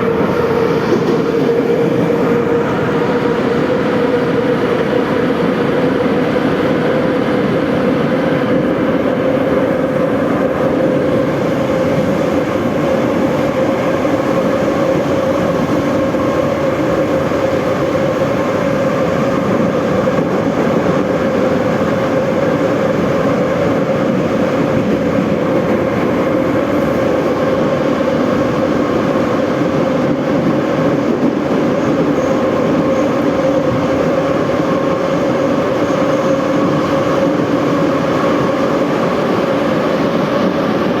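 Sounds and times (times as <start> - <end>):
subway wheels rumbling on track: 0.0 - 41.0.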